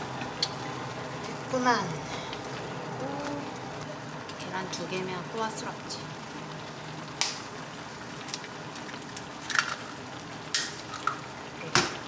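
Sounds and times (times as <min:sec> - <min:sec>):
broth simmering with steady hiss: 0:00.0 - 0:12.0.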